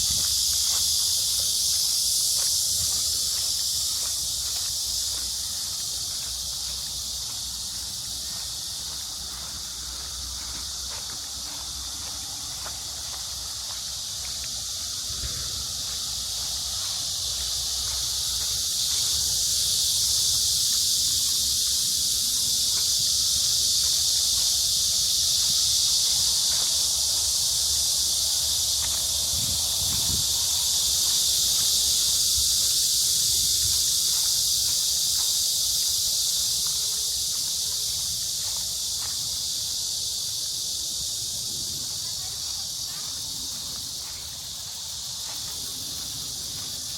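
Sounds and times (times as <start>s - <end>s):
cicadas buzzing: 0.0s - 46.9s.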